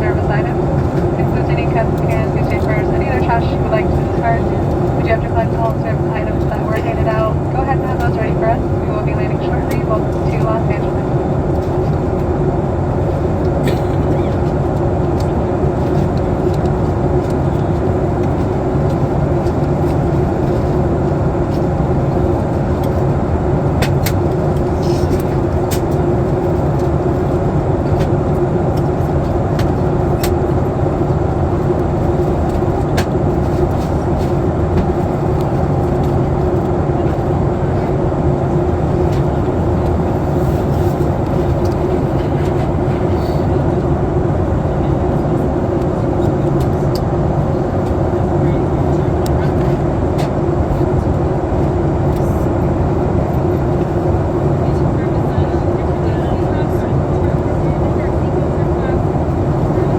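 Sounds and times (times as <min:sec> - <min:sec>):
airplane cabin airflow and engine: 0:00.0 - 0:59.9.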